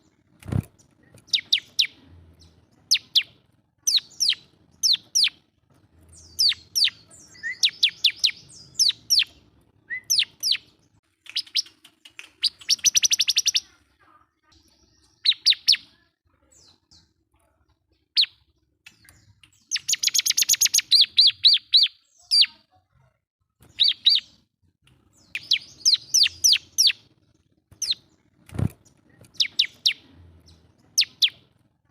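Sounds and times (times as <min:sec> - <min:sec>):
bird chirping: 0:00.0 - 0:22.8, 0:23.6 - 0:31.6.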